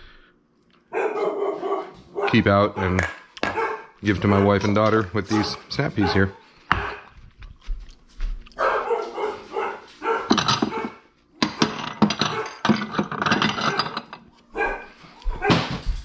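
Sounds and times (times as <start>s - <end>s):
dogs barking: 0.8s - 7.2s, 8.5s - 15.8s.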